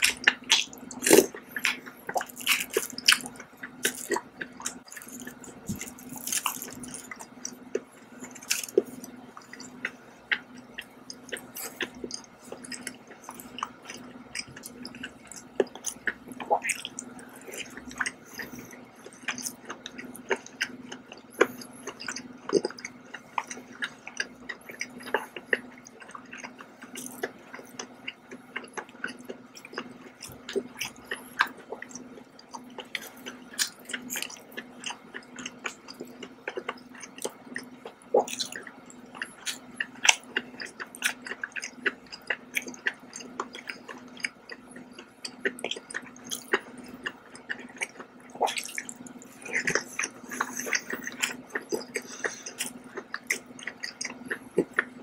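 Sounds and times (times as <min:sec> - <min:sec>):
steady low hum: 0:00.0 - 0:55.0
wet chewing with mouth smacks: 0:00.0 - 0:55.0.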